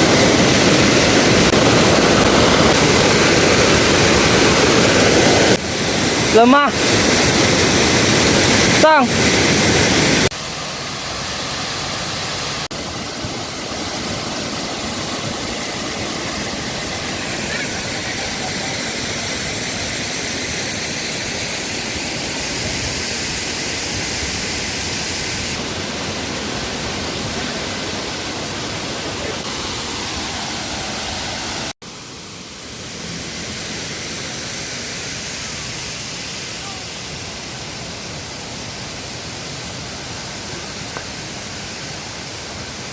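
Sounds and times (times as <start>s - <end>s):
waterfall rushing water: 0.0s - 42.9s.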